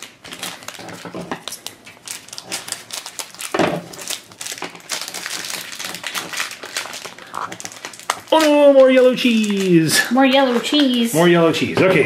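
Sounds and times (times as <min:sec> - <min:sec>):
plastic capsule crinkling and scraping: 0:00.0 - 0:11.8.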